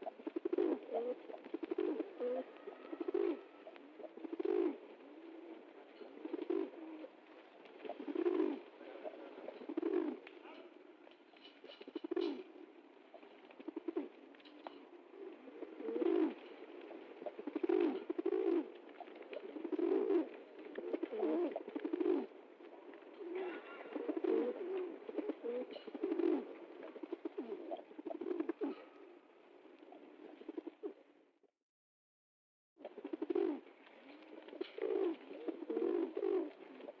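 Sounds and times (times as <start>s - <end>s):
pigeons cooing: 0.0s - 31.1s, 32.8s - 37.0s.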